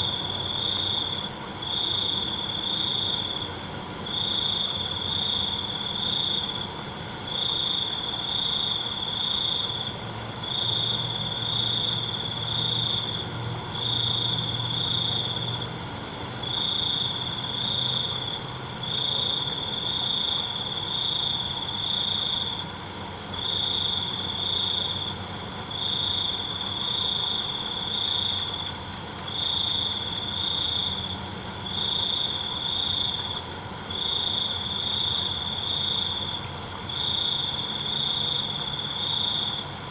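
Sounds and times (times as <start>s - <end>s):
cricket trilling: 0.0s - 39.9s
high-pitched insect hum: 0.0s - 39.9s.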